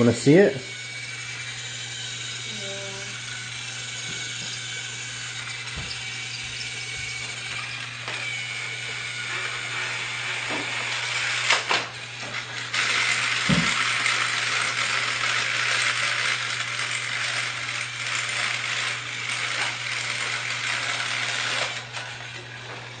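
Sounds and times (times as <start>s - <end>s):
toy train motor whirring: 0.0s - 23.0s.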